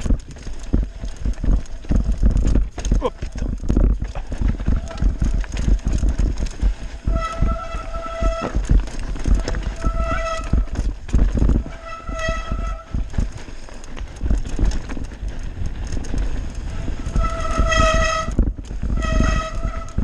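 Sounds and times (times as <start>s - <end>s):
bike rumbling and rattling on trail: 0.0s - 20.0s.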